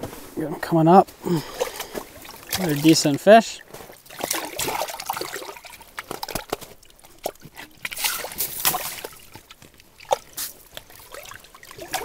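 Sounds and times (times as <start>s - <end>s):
fish thrashing in water: 1.4s - 12.0s.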